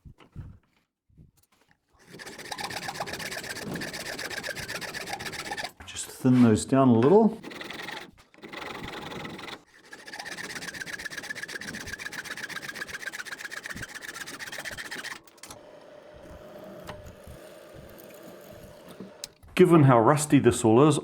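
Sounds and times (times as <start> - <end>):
metal rasping scrape: 2.0 - 19.5.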